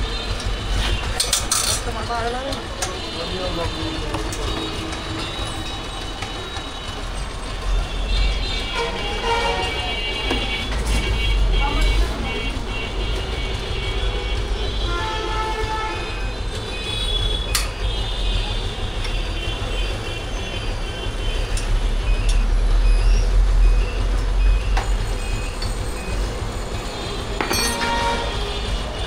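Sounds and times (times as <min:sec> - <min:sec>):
rumble of passing vehicles: 0:00.0 - 0:29.0.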